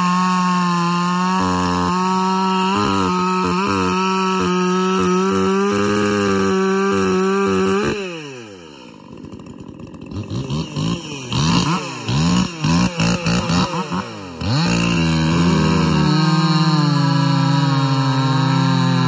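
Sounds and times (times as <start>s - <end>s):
chainsaw revving and idling: 0.0s - 19.0s.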